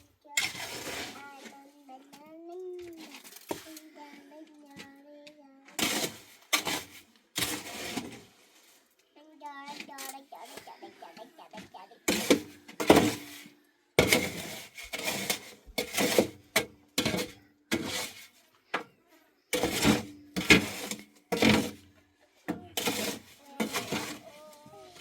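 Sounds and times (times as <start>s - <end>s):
hand tools scraping and knocking: 0.0s - 3.9s, 5.7s - 8.4s, 9.7s - 25.0s.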